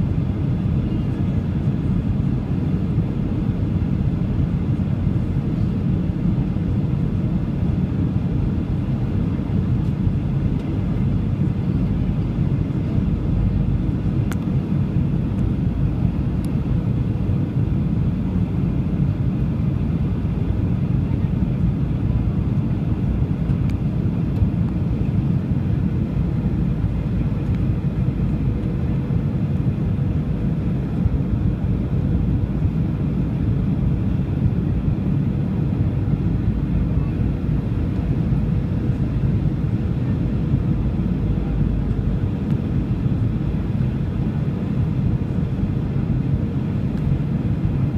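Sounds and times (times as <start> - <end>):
jet engine rumble in cabin: 0.0 - 47.9.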